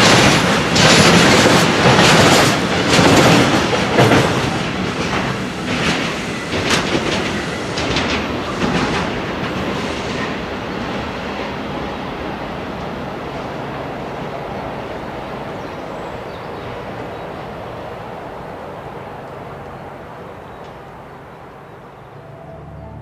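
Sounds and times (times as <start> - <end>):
freight train wagons clattering: 0.0 - 22.0.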